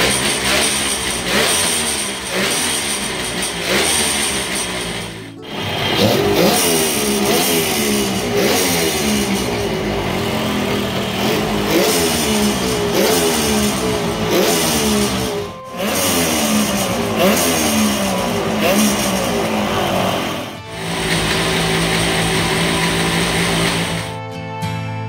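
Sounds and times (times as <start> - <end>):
two-stroke engine revving: 0.0 - 24.2.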